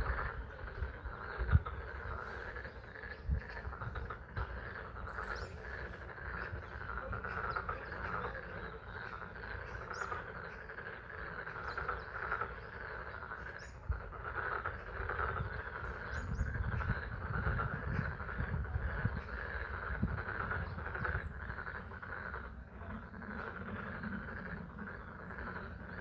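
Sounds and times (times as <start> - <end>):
frogs calling in chorus: 0.0 - 26.0.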